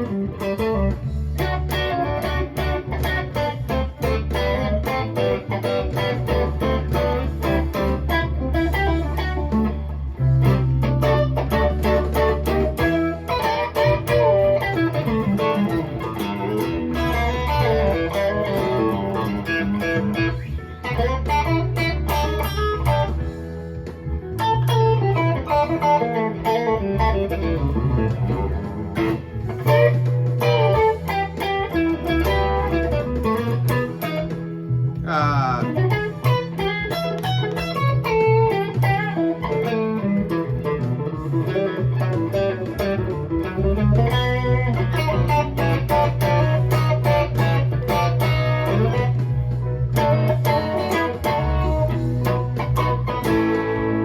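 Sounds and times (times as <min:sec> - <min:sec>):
deep bass line: 0:00.0 - 0:54.0
electric guitar playing: 0:00.0 - 0:54.0.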